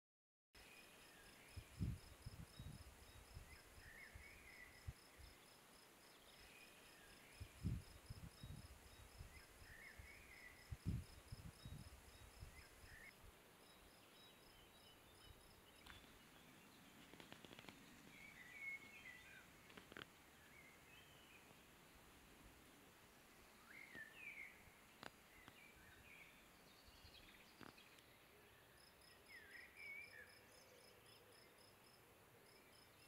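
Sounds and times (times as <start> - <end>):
songbird singing: 0.6 - 33.0.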